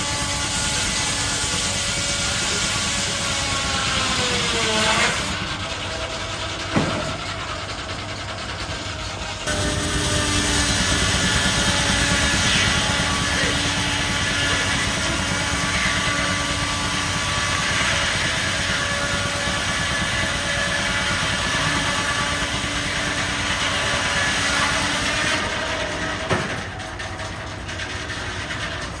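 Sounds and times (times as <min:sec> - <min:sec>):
sawmill mechanical clatter: 0:00.0 - 0:29.0.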